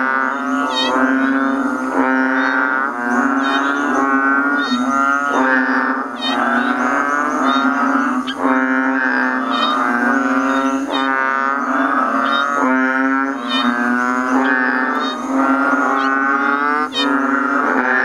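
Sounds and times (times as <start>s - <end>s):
frog wailing distress scream: 0.0s - 18.0s.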